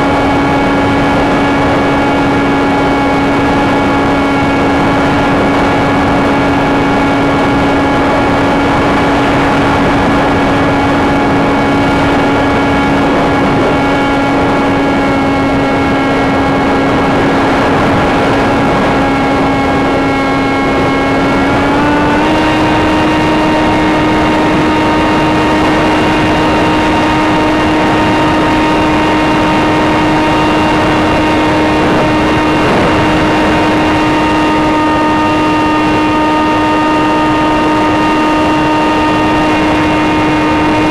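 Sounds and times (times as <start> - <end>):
electric motor whine: 0.0 - 40.9
wind noise: 0.0 - 40.9.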